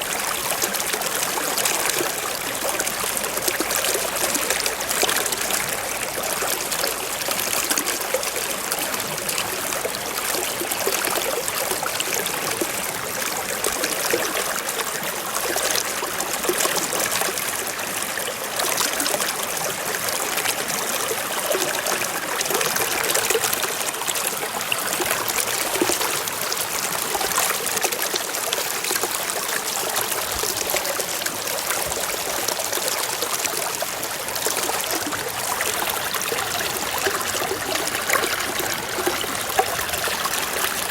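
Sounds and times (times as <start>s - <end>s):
stream babbling over rocks: 0.0s - 40.9s.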